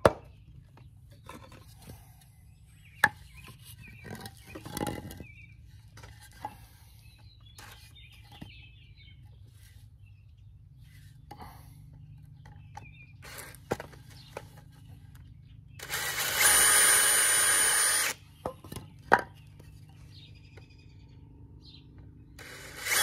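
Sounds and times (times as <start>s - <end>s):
birds chirping faintly: 0.1s - 23.0s.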